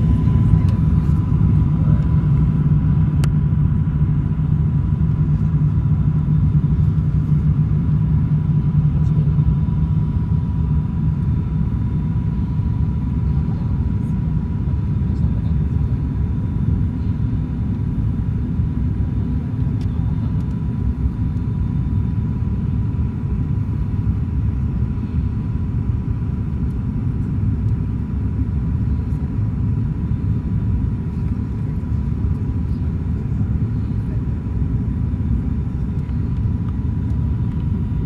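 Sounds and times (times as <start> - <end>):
aircraft engine rumble in cabin: 0.0 - 38.0.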